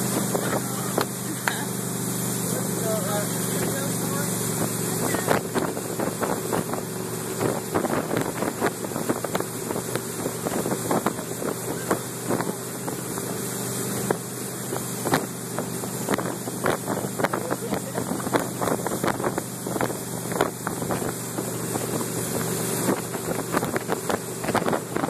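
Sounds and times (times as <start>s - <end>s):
motorboat engine running: 0.0s - 25.0s
water rushing in wake: 0.0s - 25.0s
wind buffeting microphone: 4.4s - 13.4s, 14.0s - 25.0s.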